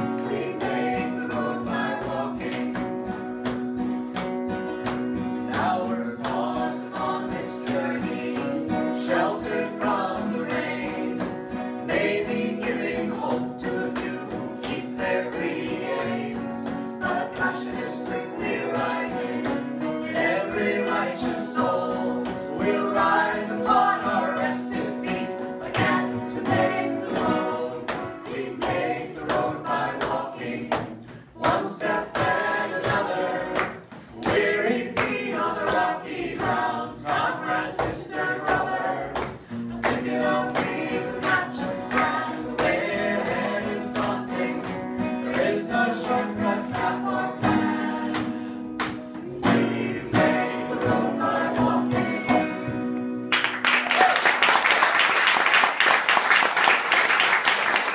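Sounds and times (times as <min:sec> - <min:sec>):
voices singing in harmony: 0:00.0 - 0:03.1, 0:05.5 - 0:53.0
banjo: 0:00.0 - 0:53.3
acoustic guitar: 0:00.0 - 0:54.2.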